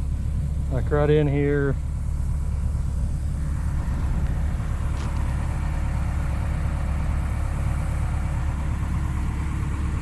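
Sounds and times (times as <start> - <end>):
excavator engine idling: 0.0 - 10.0.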